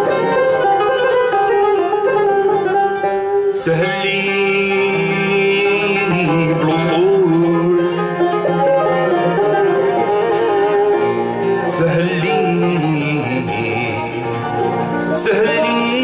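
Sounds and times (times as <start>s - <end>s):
plucked string ensemble: 0.0s - 16.0s.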